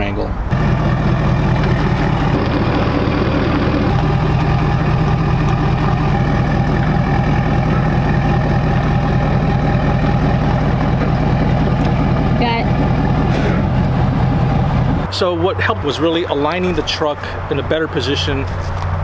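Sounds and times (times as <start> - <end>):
pickup truck engine idling: 0.5 - 19.0.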